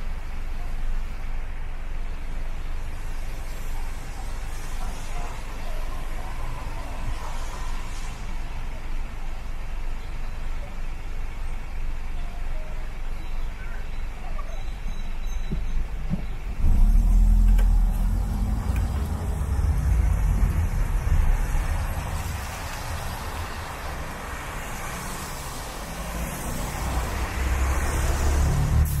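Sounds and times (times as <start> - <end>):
tyres hissing on wet road: 0.0 - 12.2, 16.4 - 29.0
deep heavy engine rumble: 0.0 - 29.0
vehicle engines running: 0.0 - 29.0.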